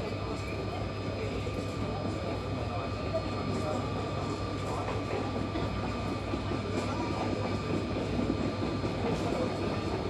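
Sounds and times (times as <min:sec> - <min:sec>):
muffled jet engines idling: 0:00.0 - 0:10.0.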